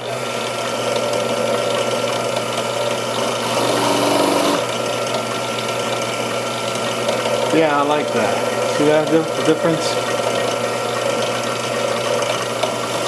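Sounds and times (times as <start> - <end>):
drill press running: 0.0 - 13.0.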